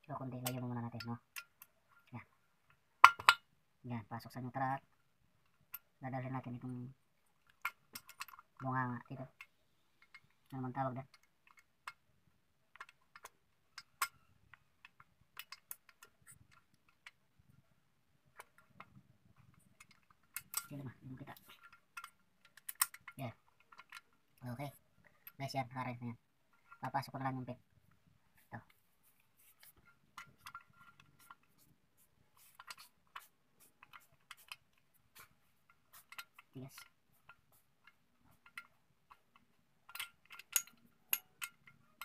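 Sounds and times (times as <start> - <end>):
metal parts clicking and tapping: 0.2 - 3.6, 4.2 - 17.6, 18.2 - 27.4, 28.6 - 42.0.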